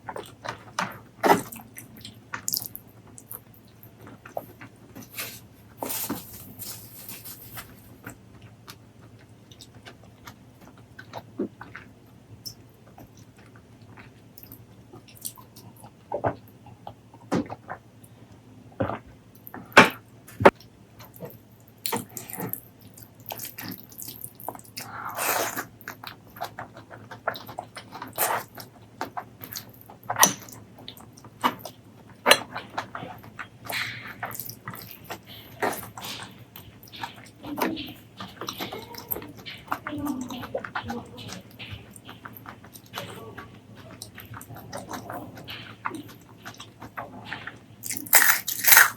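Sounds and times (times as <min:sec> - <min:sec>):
wet chewing: 0:00.0 - 0:17.8, 0:20.5 - 0:48.9.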